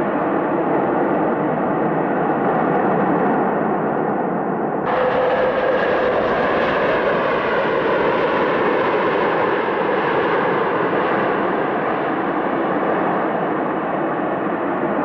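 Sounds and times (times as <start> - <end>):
jet engine roar with whine: 0.0 - 15.0.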